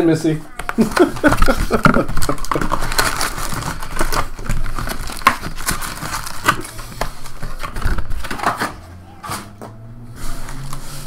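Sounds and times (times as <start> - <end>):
foil packs crinkling: 0.5 - 9.4.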